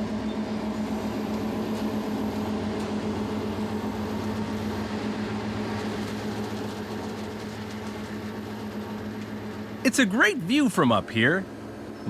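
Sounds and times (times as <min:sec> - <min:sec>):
harvester engine humming: 0:00.0 - 0:12.0.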